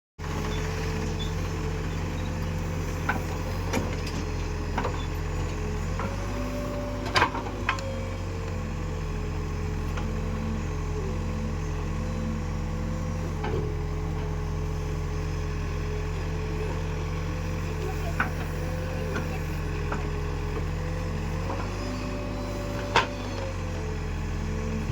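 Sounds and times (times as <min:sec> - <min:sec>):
heavy vehicle engine running: 0:00.2 - 0:24.9.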